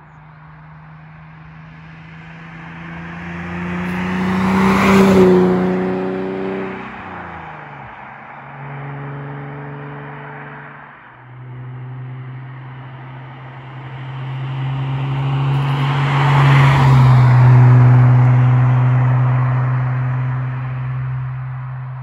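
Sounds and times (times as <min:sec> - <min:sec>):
car exhaust drone: 0:00.0 - 0:22.0
tyre and road noise: 0:00.0 - 0:22.0.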